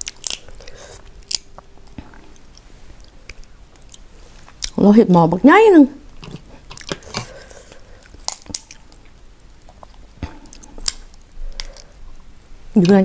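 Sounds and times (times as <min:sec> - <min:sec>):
person chewing: 0:00.0 - 0:04.8, 0:06.1 - 0:12.3.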